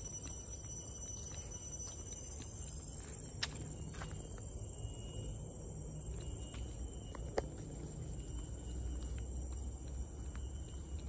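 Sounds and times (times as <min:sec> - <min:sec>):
footsteps on a paved path: 0:00.0 - 0:11.0.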